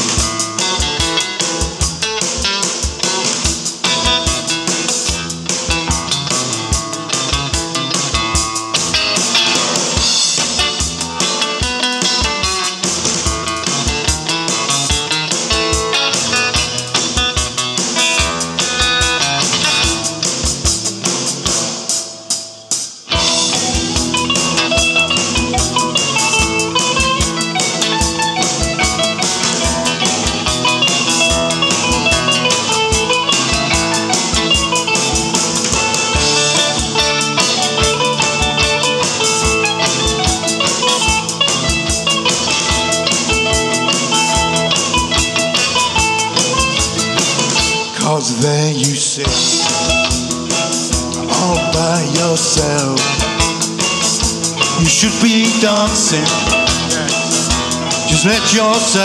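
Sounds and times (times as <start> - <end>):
steady kick drum beat: 0.0 - 47.9, 49.3 - 59.0
live band playing instrumental: 0.0 - 59.0.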